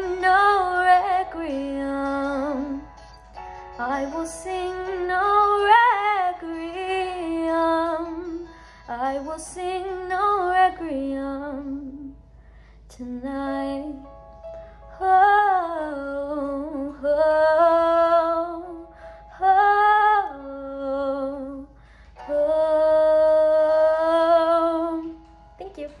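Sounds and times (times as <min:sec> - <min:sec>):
woman singing unaccompanied: 0:00.0 - 0:02.9, 0:03.8 - 0:12.2, 0:15.0 - 0:26.0.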